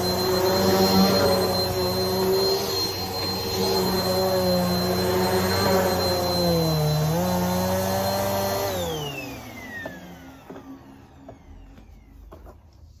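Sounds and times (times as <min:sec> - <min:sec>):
vacuum cleaner whining: 0:00.0 - 0:13.0.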